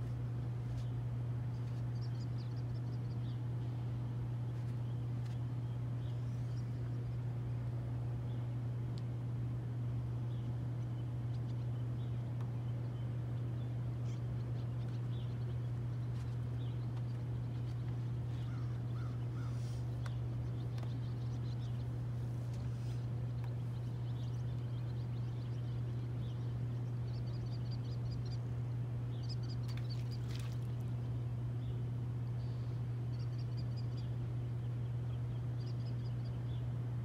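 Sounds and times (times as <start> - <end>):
steady low hum: 0.0 - 37.0
bird calls and chirps: 0.7 - 7.3, 10.2 - 36.8.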